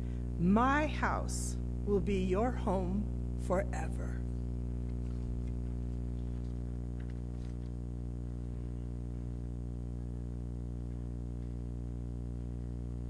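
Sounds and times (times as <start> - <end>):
low hum with overtones: 0.0 - 13.0.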